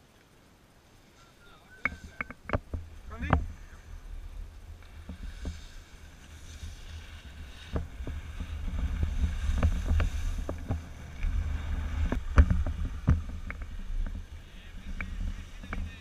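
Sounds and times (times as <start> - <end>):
skis scraping on snow: 0.9 - 16.0
wind rumble on microphone: 1.8 - 16.0.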